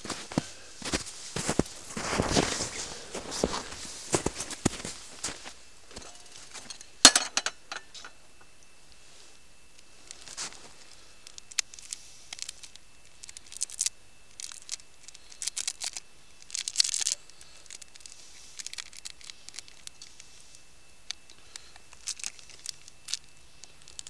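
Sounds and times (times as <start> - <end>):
crinkling handling noises: 0.0 - 24.0
faint steady high tone: 0.0 - 24.0.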